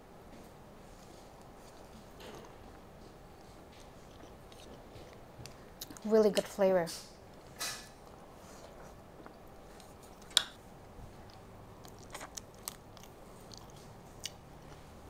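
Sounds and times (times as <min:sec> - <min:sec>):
person chewing: 0:00.8 - 0:06.0, 0:07.3 - 0:15.0.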